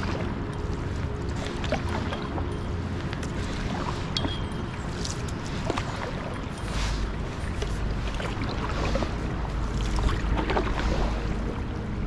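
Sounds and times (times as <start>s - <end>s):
canoe paddle splashing water: 0.0s - 11.6s
wind rumble on microphone: 0.0s - 12.0s.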